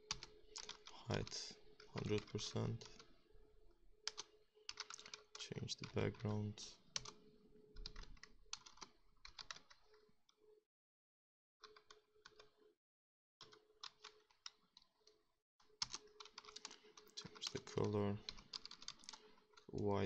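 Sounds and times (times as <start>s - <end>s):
faint keyboard typing: 0.0s - 3.2s, 4.0s - 10.4s, 11.6s - 12.6s, 13.4s - 20.0s.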